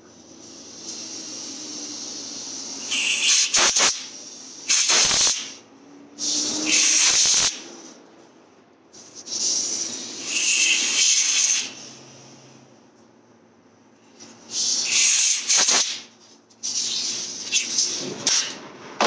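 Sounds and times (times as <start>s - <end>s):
compressed air hissing bursts: 0.1s - 8.0s, 8.9s - 12.7s, 14.1s - 18.1s.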